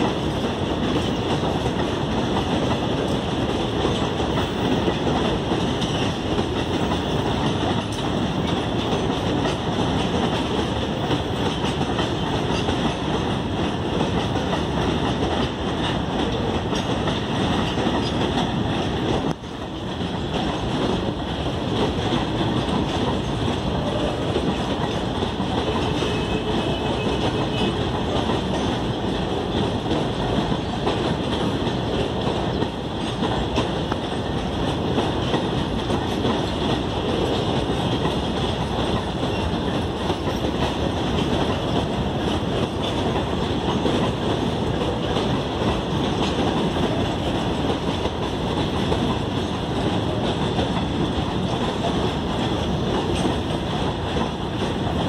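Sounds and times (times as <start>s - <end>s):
freight train wheels on track: 0.0s - 55.0s.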